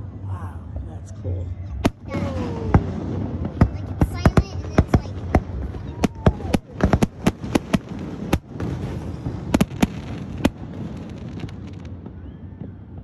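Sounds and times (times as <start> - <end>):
fireworks bangs and crackles: 1.7 - 13.0.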